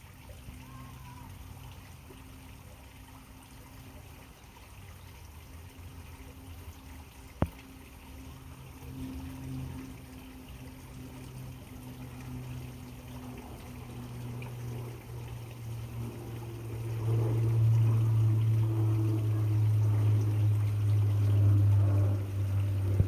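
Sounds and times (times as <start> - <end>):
faint trickle of water: 0.0 - 23.0
low motor-like hum: 0.0 - 23.0.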